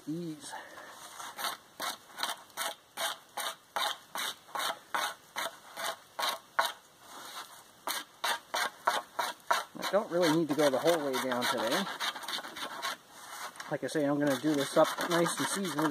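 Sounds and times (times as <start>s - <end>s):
knife scraping bark: 1.1s - 15.9s.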